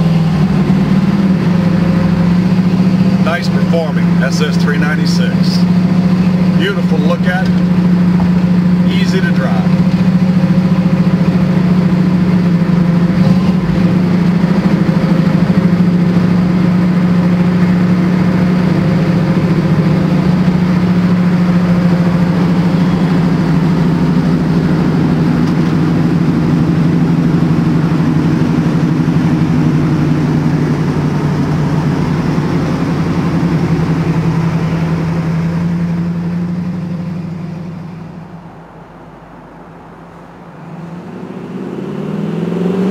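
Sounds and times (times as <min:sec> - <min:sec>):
car engine running deep: 0:00.0 - 0:42.9.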